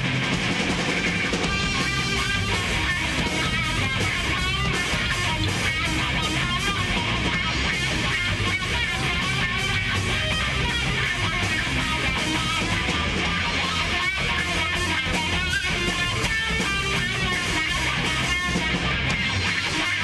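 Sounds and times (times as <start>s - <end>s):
electric bass guitar: 0.0s - 20.0s
electric guitar: 0.0s - 20.0s
live rock band: 0.0s - 20.0s.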